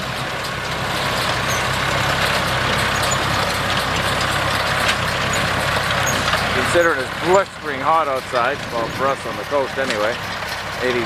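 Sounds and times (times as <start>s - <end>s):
hay baler mechanical noise: 0.0s - 11.0s
tractor engine droning: 0.0s - 11.0s.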